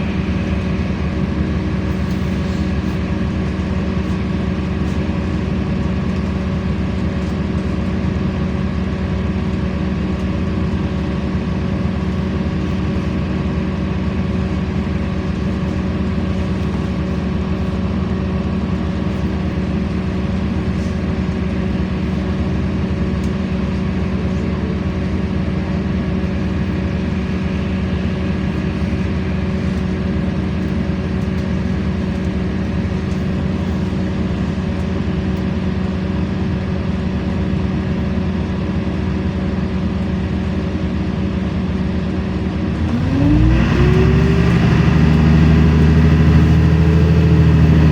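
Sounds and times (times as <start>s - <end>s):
bus diesel engine droning: 0.0s - 47.9s.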